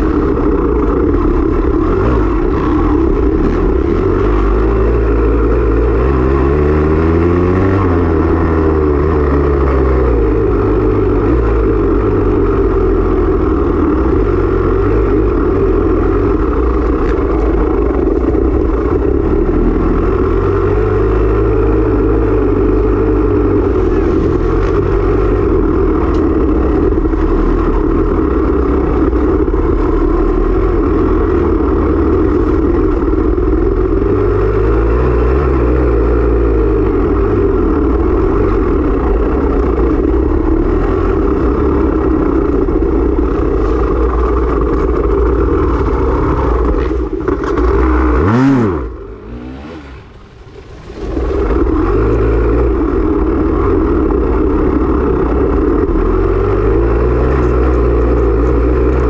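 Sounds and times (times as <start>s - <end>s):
dirt bike engine revving: 0.0s - 33.0s, 33.8s - 59.0s.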